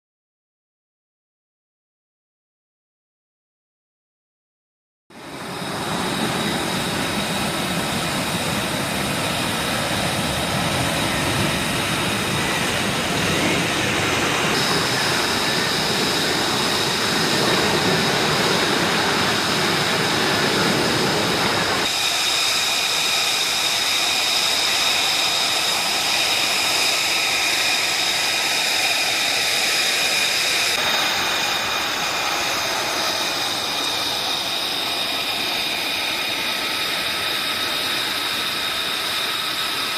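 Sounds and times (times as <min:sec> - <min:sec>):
jet engine running: 0:05.1 - 0:39.9.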